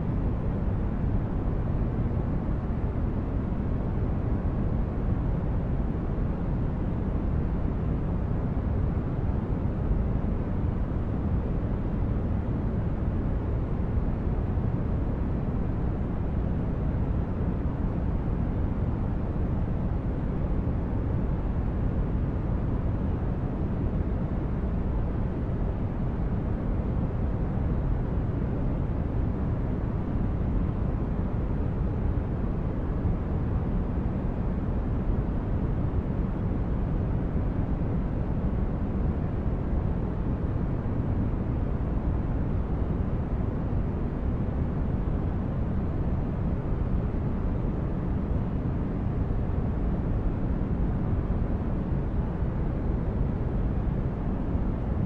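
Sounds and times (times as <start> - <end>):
deep rumbling steady noise: 0.0 - 55.0.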